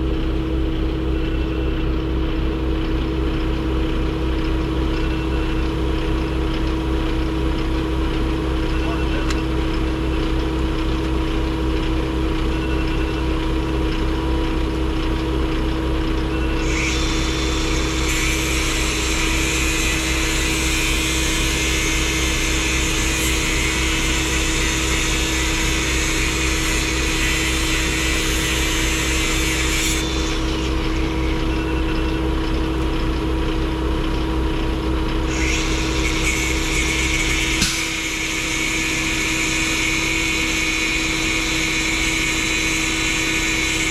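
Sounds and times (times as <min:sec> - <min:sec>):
vehicle engine humming: 0:00.0 - 0:25.7, 0:27.2 - 0:39.9.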